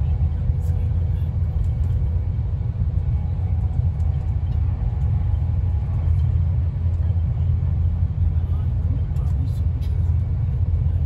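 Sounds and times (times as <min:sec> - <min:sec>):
train rumble from inside carriage: 0:00.0 - 0:11.0.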